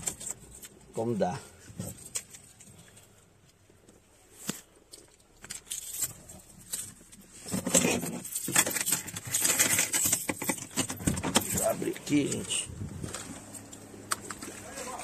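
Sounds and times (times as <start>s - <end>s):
clicks and rustling: 1.7s - 15.0s.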